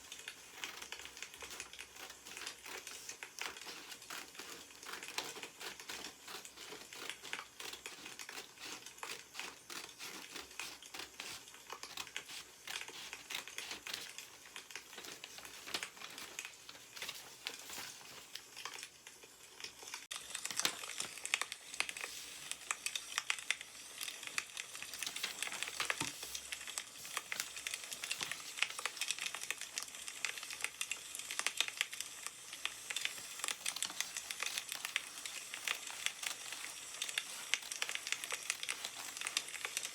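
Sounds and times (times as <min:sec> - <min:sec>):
newspaper rustling and crinkling: 0:00.0 - 0:19.0, 0:20.0 - 0:23.6, 0:24.2 - 0:29.8, 0:32.9 - 0:39.9.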